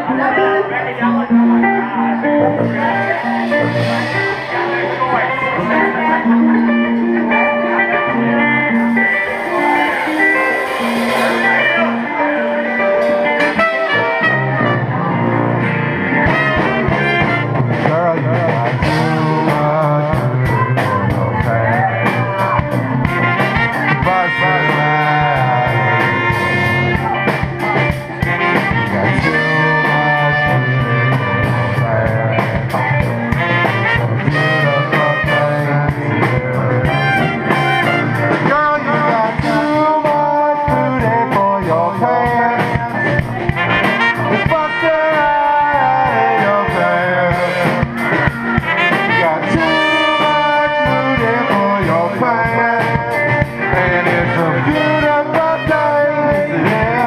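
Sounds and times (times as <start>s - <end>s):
man singing: 0.0s - 57.0s
saxophone: 0.0s - 57.0s
strummed guitar: 0.0s - 57.0s
trumpet: 0.0s - 57.0s
tuba: 0.0s - 57.0s.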